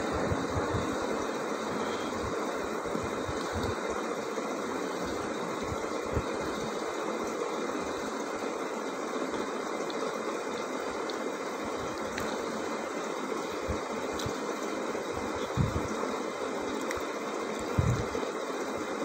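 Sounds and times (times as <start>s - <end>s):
mechanical running noise: 0.0s - 19.0s.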